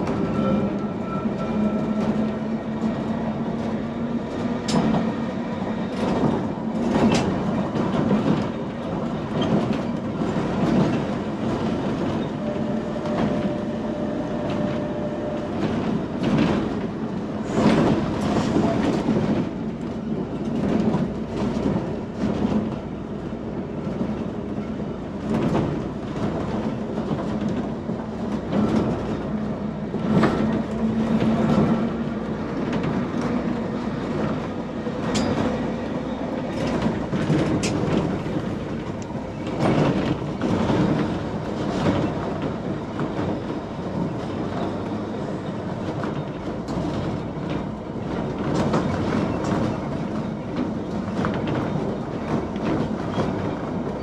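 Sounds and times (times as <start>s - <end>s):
electric tram running hum: 0.0s - 54.0s.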